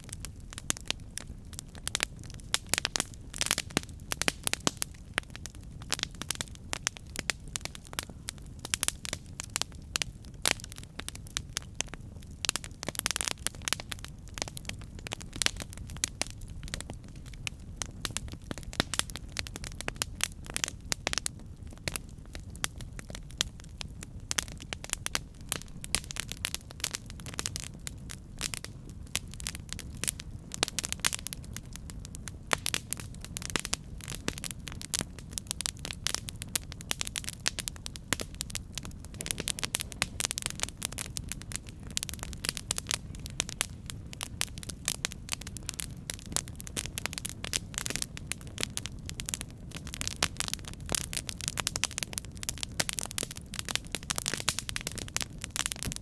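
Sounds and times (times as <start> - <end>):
low rush of flames: 0.0 - 56.0
wood crackling and popping: 0.0 - 56.0.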